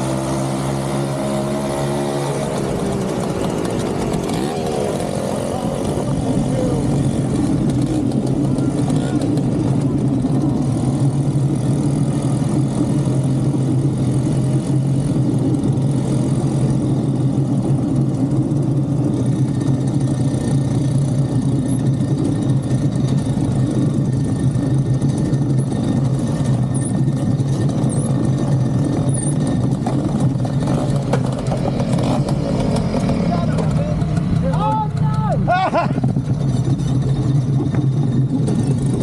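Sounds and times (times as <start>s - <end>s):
road noise: 0.0s - 39.0s
vehicle engine droning: 0.0s - 39.0s.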